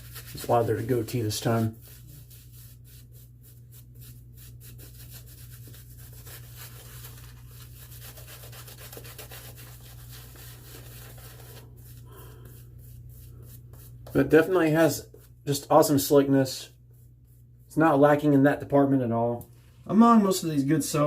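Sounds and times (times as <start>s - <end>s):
shaving brush swishing on face: 0.0s - 18.0s
steady low hum: 0.0s - 18.7s.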